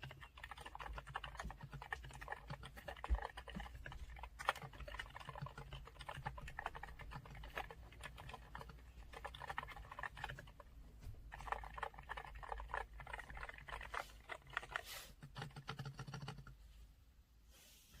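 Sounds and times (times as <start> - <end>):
mechanical keyboard typing: 0.0 - 10.7, 11.3 - 16.6.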